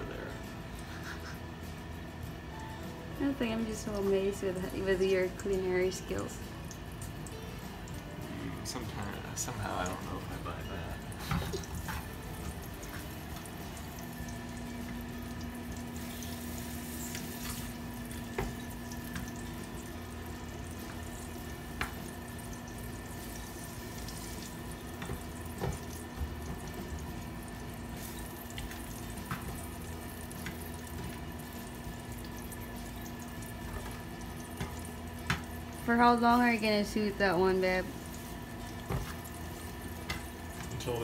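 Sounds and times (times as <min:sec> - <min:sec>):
steady low hum: 0:00.0 - 0:41.0
onion and garlic sizzling in oil: 0:03.2 - 0:41.0.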